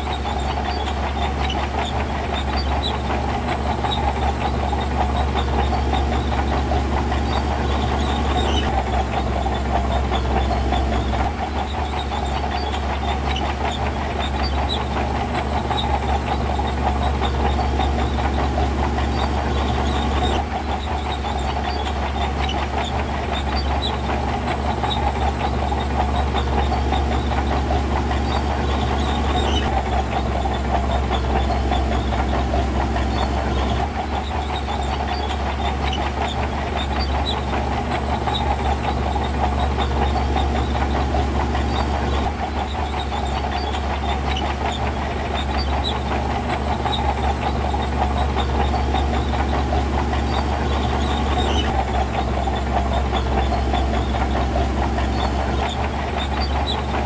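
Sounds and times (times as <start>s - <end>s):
diesel engine rattling: 0.0s - 57.0s.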